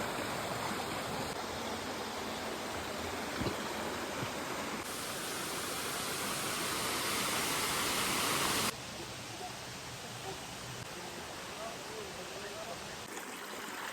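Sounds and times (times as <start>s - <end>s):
water rushing: 0.0s - 13.9s.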